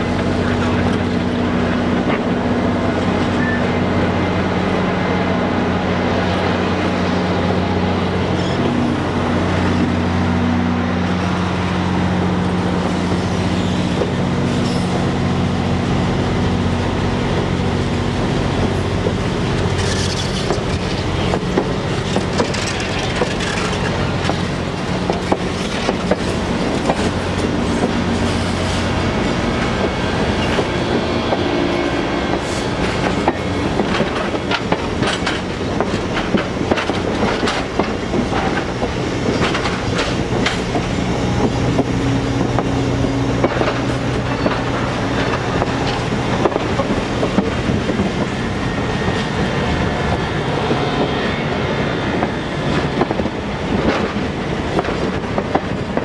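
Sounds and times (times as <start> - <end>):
diesel locomotive engine droning: 0.0 - 56.0
train wheels clicking over rail joints: 11.0 - 56.0.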